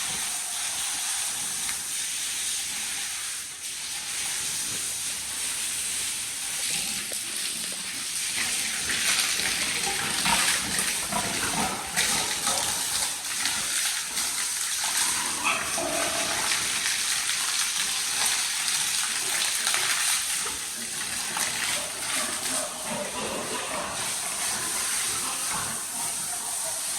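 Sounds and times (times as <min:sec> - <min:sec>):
hose spraying water: 0:00.0 - 0:26.9.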